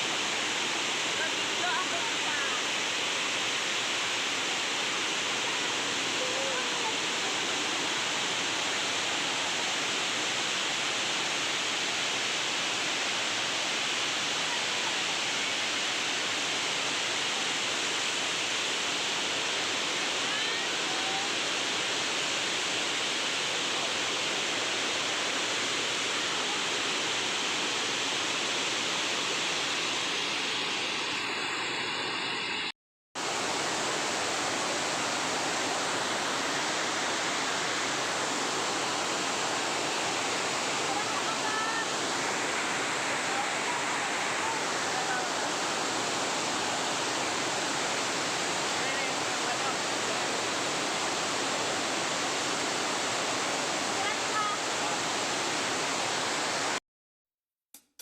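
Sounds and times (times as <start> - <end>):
waterfall rushing: 0.0 - 56.8.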